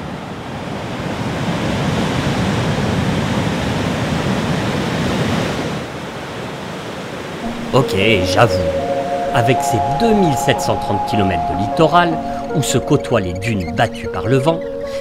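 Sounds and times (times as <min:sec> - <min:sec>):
wave breaking and washing in: 0:00.0 - 0:13.9.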